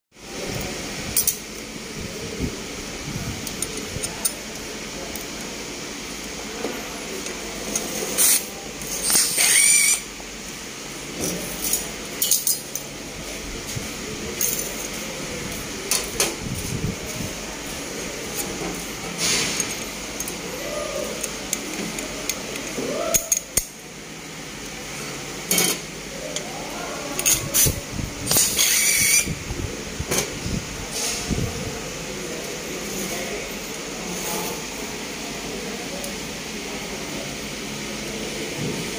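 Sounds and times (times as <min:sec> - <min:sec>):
faint voices: 0:00.2 - 0:38.9.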